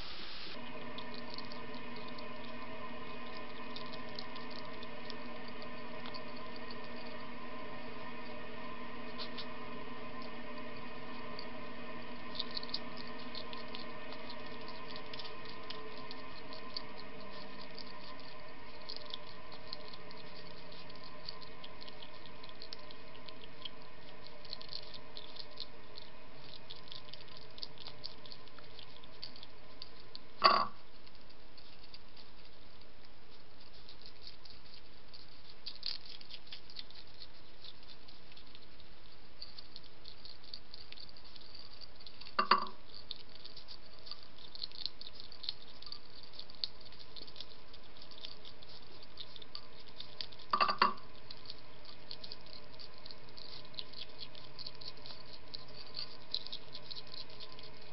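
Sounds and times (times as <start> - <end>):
hedgehog crunching kibble: 0.6 - 57.9.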